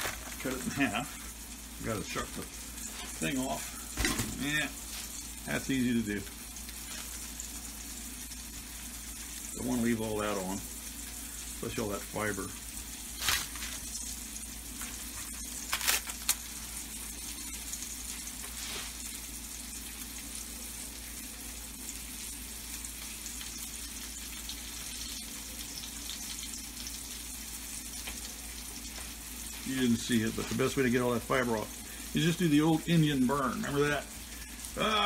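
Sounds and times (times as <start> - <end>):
meat sizzling in a skillet: 0.0 - 35.0.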